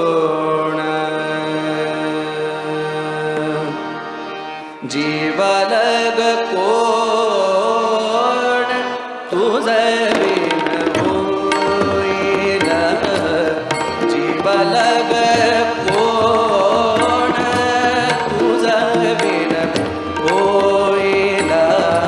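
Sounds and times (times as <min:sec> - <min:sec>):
man singing: 0:00.0 - 0:04.1, 0:04.8 - 0:22.0
harmonium chord: 0:00.0 - 0:22.0.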